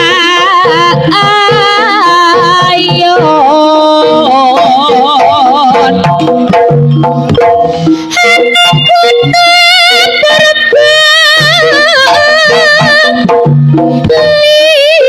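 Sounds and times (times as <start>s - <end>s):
hand drum rhythm: 0.0s - 15.0s
wavering vibrato melody: 0.0s - 15.0s.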